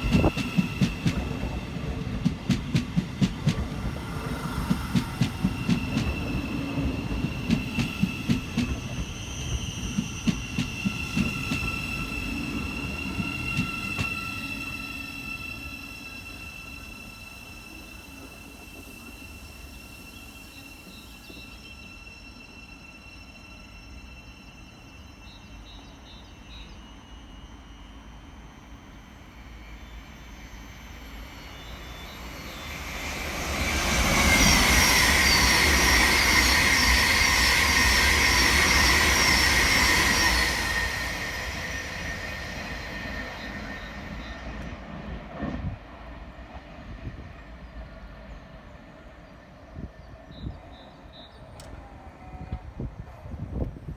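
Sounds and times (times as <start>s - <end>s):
train passing with high whine: 0.0s - 53.9s.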